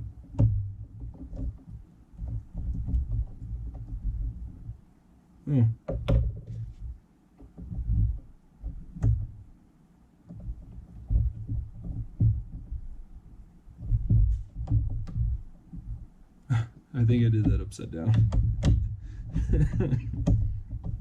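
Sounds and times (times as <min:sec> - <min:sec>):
low handling thumps: 0:00.0 - 0:09.6, 0:10.2 - 0:21.0.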